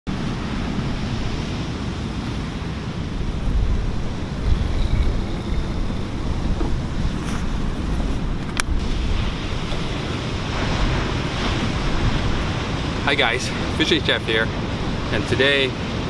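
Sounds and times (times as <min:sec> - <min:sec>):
ocean surf: 0:00.1 - 0:16.0
wind noise on microphone: 0:00.1 - 0:16.0.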